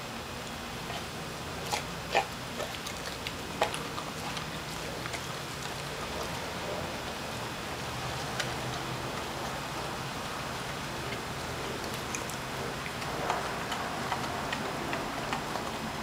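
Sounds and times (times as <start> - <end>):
steady background noise: 0.0 - 16.0
dog chewing and crunching fish: 0.4 - 16.0.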